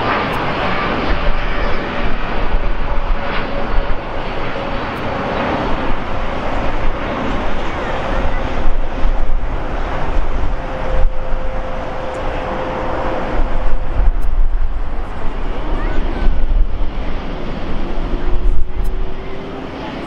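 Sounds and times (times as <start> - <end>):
jet engines climbing out: 0.0 - 20.0.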